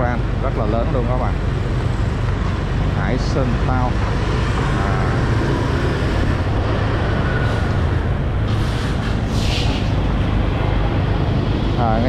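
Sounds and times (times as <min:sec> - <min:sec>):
motorbike engine drone: 0:00.0 - 0:12.0
road and traffic noise: 0:00.0 - 0:12.0.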